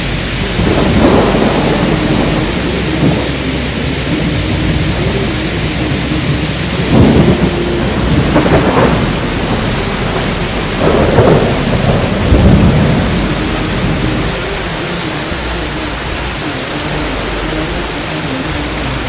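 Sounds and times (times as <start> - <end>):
heavy rain: 0.0 - 19.0
low rumbling swells: 0.0 - 19.0.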